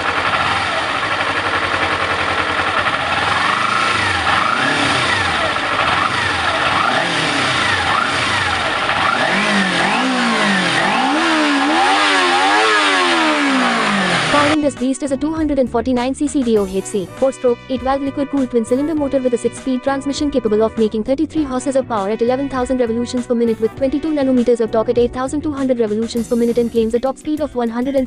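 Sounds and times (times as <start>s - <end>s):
motorcycle engine revving: 0.0s - 15.0s, 16.3s - 24.9s.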